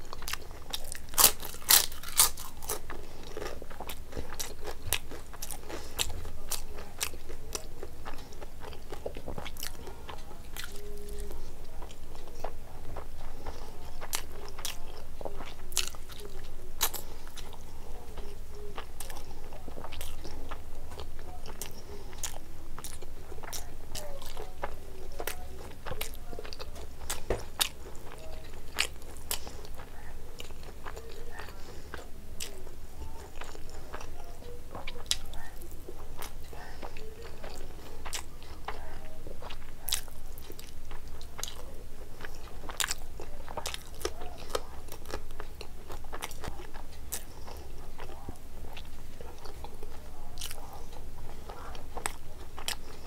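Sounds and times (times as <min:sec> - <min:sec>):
chewing with crunches: 0:00.0 - 0:53.0.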